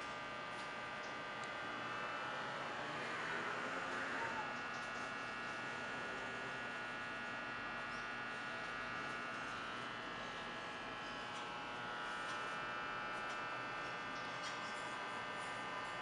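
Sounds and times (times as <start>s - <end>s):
electrical buzzing hum: 0.0s - 16.0s.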